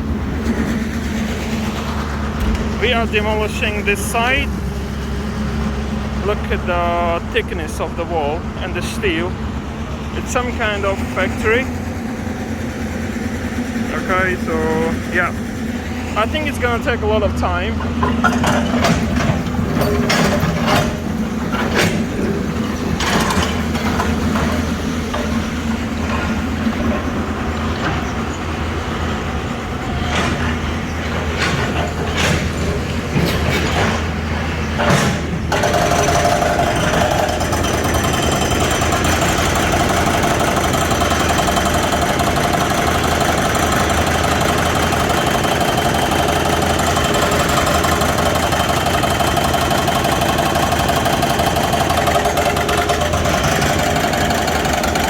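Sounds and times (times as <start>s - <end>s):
excavator diesel engine running: 0.0s - 55.0s
hydraulic breaker hammering: 7.7s - 55.0s.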